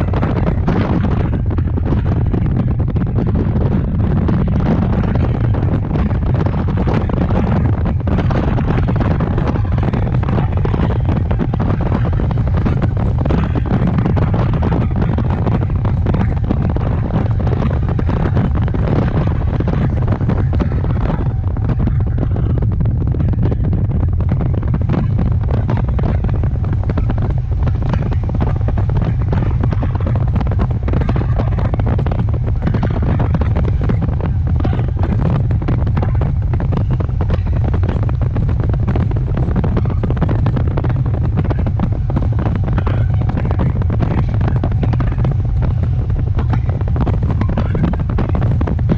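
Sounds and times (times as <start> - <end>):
train clatter and knocks: 0.0 - 48.9
train rumbling on track: 0.0 - 48.9.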